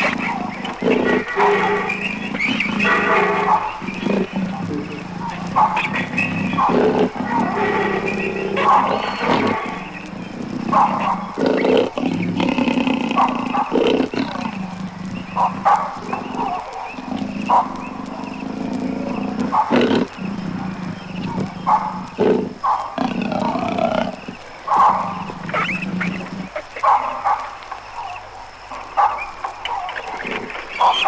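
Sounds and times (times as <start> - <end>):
steady background noise: 0.0 - 31.0
wild animals calling: 0.0 - 31.0.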